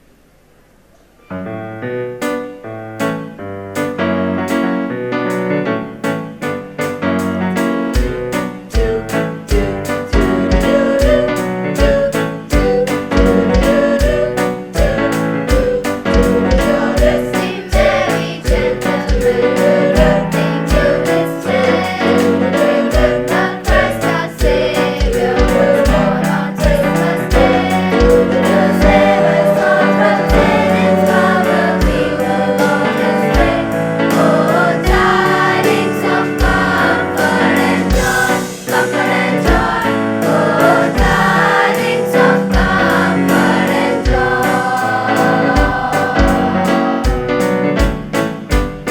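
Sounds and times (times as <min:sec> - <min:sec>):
choir singing in parts: 0:07.9 - 0:47.5
steady low beat: 0:08.0 - 0:48.9.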